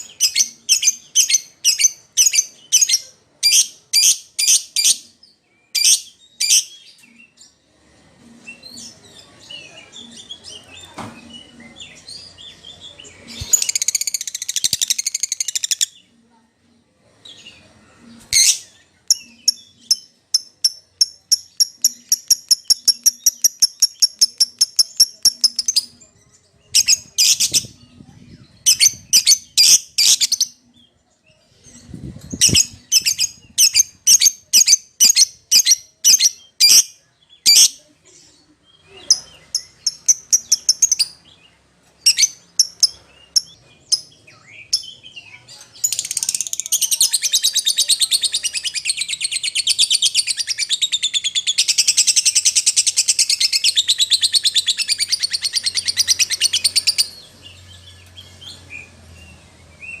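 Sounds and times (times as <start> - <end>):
lovebird chirping and trilling: 0.0 - 5.1, 5.7 - 7.2, 10.0 - 16.1, 17.3 - 30.7, 31.5 - 37.9, 38.8 - 41.3, 42.0 - 45.2, 45.8 - 60.0.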